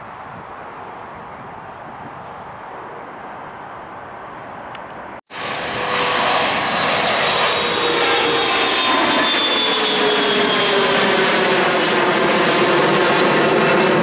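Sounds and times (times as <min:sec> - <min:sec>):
jet airliner engines passing: 0:00.0 - 0:14.0.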